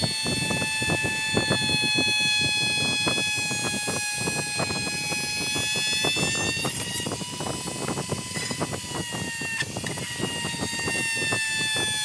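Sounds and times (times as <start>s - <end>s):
rotary tool cutting plastic: 0.0s - 12.0s.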